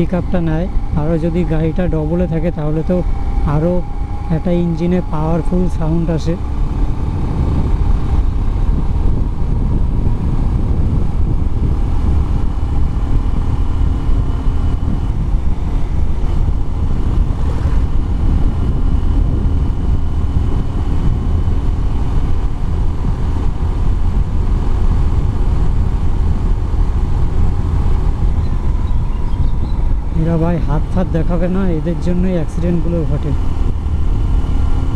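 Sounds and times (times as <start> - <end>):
motorcycle engine cruising: 0.0 - 34.9
wind buffeting microphone: 0.0 - 34.9.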